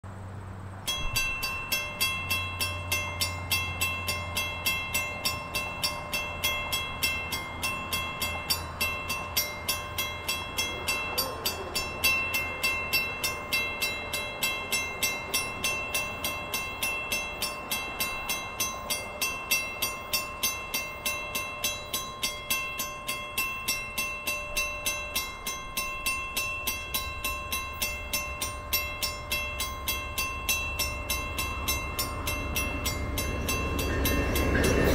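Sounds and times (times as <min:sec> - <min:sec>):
train locomotive rumble: 0:00.0 - 0:34.9
level crossing warning bell: 0:00.8 - 0:34.9.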